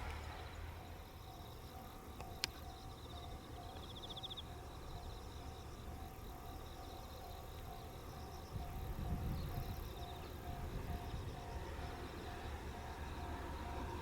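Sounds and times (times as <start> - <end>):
insects trilling: 0.2 - 14.0.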